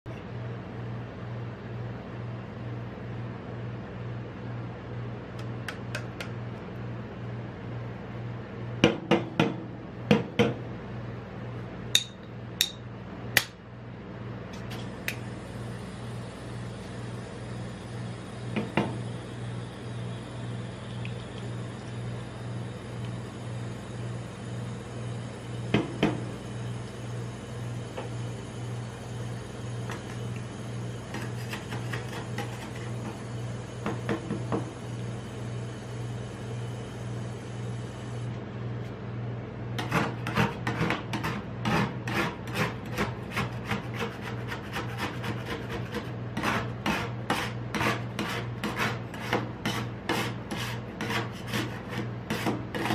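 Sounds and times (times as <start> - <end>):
steady low hum: 0.1 - 52.9.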